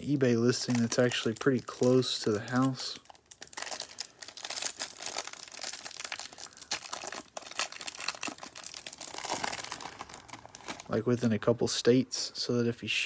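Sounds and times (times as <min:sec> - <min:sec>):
plastic wrapper crinkling: 0:00.0 - 0:11.2.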